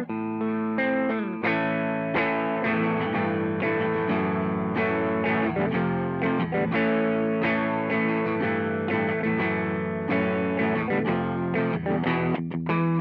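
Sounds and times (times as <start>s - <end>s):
overdriven electric guitar: 0.0s - 13.0s.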